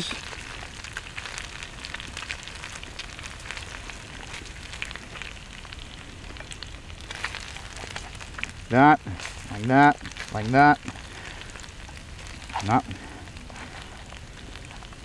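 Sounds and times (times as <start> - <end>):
fish frying in oil: 0.0 - 15.0
oil crackling and popping: 0.0 - 15.0.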